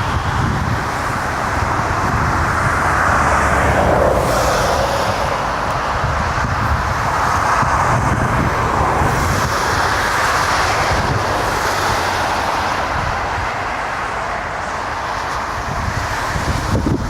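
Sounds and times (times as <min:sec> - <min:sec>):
jet airliner engine rushing: 0:00.0 - 0:17.0.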